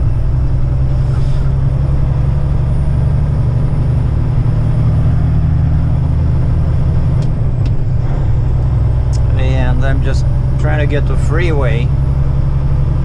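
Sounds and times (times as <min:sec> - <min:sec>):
diesel truck engine droning: 0:00.0 - 0:13.0
road noise: 0:00.0 - 0:13.0.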